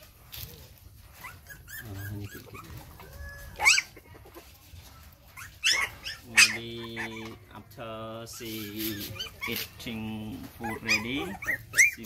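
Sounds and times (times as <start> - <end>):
puppies yelping and whimpering: 0.9 - 4.6, 5.3 - 12.0.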